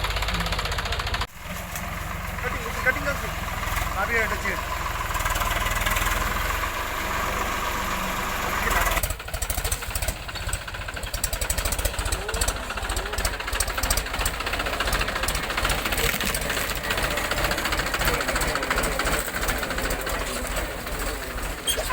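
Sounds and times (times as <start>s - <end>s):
diesel tractor engine knocking: 0.0s - 21.9s.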